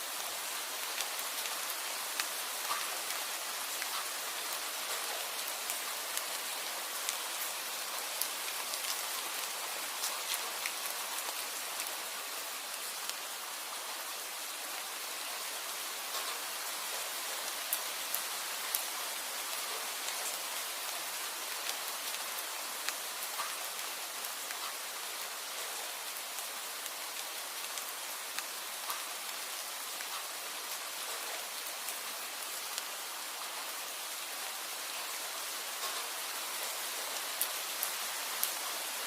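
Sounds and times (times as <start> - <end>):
rain falling: 0.0 - 39.0.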